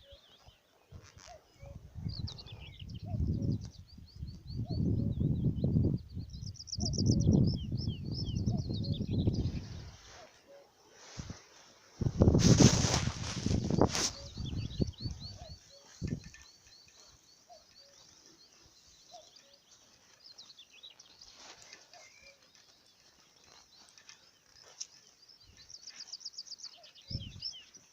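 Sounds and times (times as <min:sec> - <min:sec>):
small birds chirping and trilling: 0:00.0 - 0:27.9.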